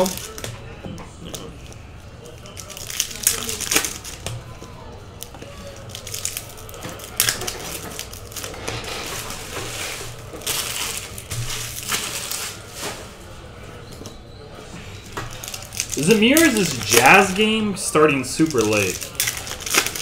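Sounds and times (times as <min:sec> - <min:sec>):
foil wrappers crinkling: 0:00.0 - 0:00.6, 0:01.2 - 0:13.4, 0:14.8 - 0:20.0.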